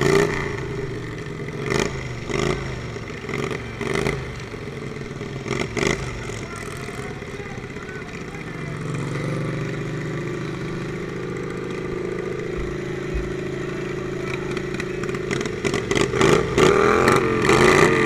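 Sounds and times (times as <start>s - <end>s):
lawnmower engine revving: 0.0s - 18.0s.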